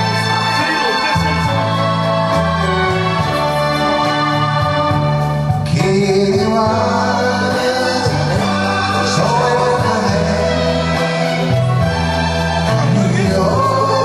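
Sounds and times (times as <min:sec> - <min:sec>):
person singing: 0:00.0 - 0:14.0
pop ballad backing track: 0:00.0 - 0:14.0
walking bass line: 0:00.0 - 0:14.0.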